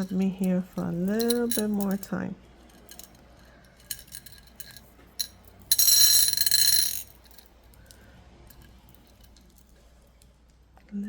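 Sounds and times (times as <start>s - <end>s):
stone beads clicking and rattling: 0.0s - 3.2s, 3.8s - 9.6s.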